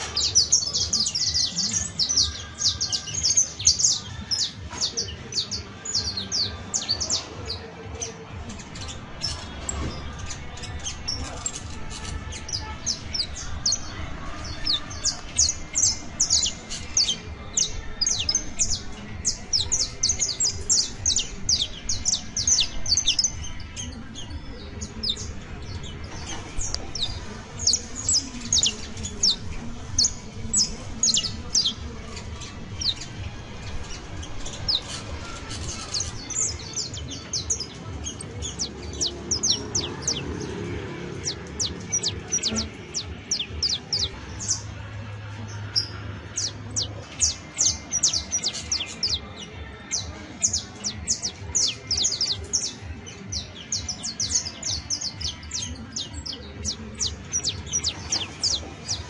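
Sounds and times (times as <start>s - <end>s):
finch singing high chirps: 0.0s - 59.0s.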